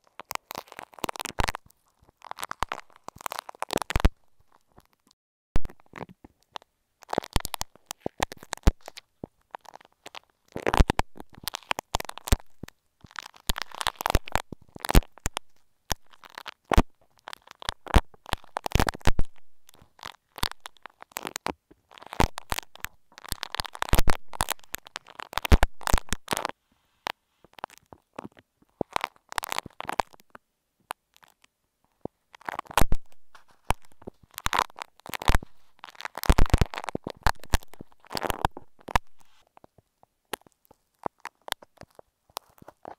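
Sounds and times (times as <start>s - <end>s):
clay squeezed crackling and clicking: 0.0s - 42.9s.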